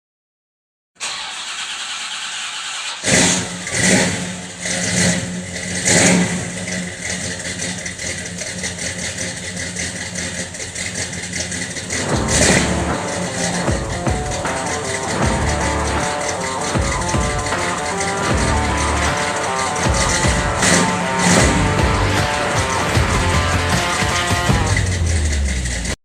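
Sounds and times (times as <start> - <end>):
car engine revving and idling: 1.0 - 26.0.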